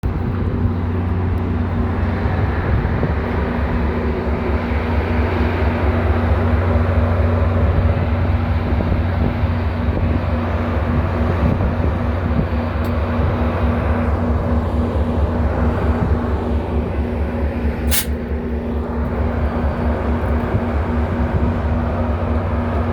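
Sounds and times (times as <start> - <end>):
diesel locomotive rumbling: 0.0 - 22.9.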